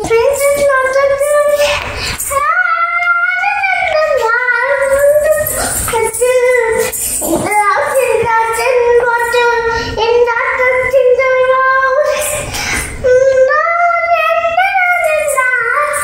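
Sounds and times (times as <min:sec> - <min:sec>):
girl singing: 0:00.0 - 0:16.0.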